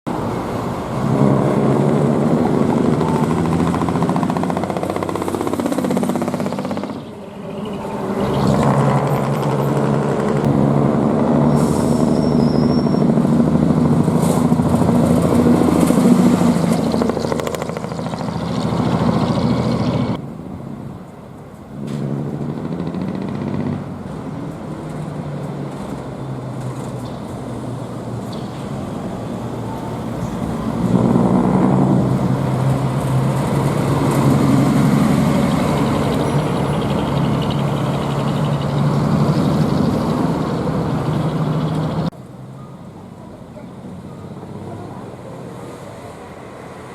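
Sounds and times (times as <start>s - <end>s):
truck diesel engine droning: 0.1s - 46.9s.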